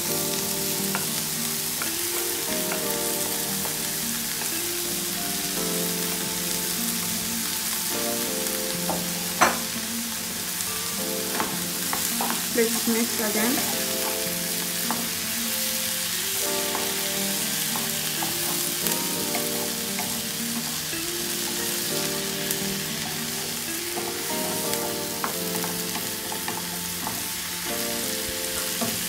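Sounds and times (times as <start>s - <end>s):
soft background music: 0.0s - 29.0s
vegetables sizzling in oil: 0.0s - 29.0s.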